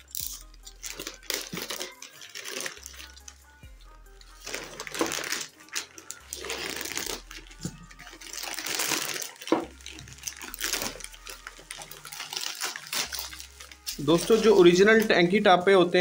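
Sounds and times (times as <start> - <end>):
bubble wrap rustling and crinkling: 0.0 - 16.0.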